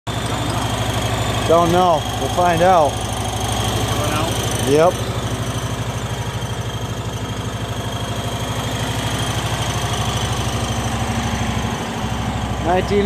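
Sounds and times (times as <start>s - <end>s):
utility vehicle engine idling: 0.1s - 13.0s.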